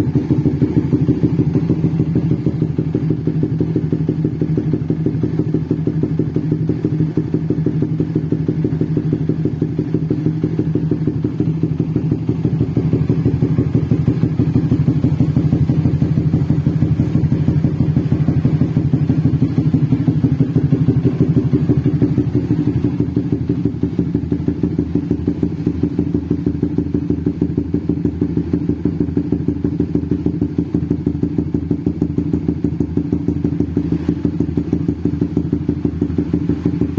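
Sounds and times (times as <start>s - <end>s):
motorcycle engine idling: 0.0s - 36.9s.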